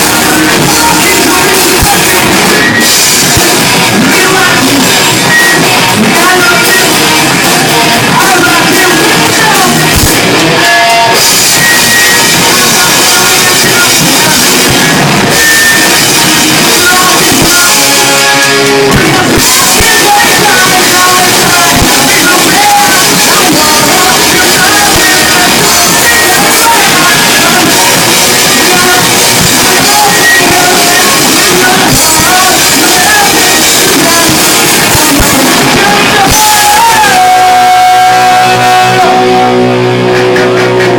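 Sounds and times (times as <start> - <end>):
person singing: 0.0 - 40.9
rock band playing live: 0.0 - 40.9.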